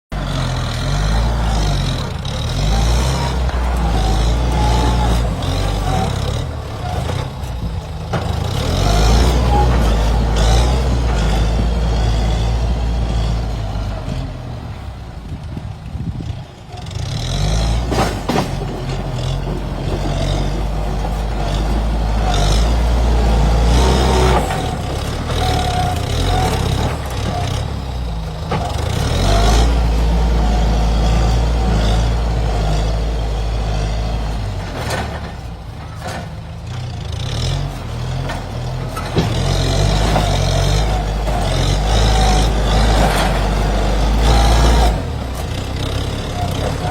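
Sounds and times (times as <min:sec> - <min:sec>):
tractor diesel engine rumbling: 0:00.1 - 0:46.9.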